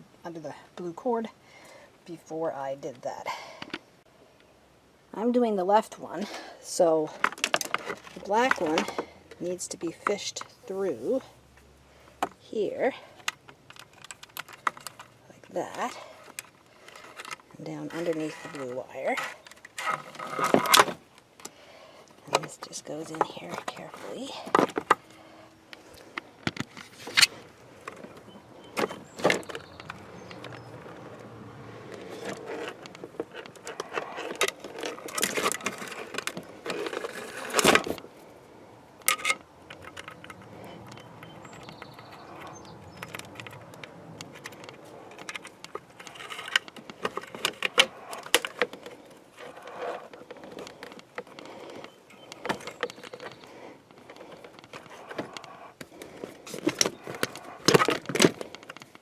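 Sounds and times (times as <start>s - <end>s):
small metal and plastic parts rattling: 7.1s - 11.2s, 12.2s - 38.1s, 39.0s - 59.0s.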